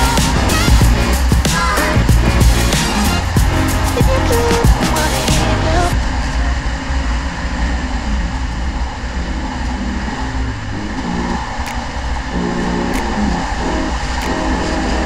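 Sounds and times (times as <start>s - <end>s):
continuous rushing noise: 0.0s - 15.0s.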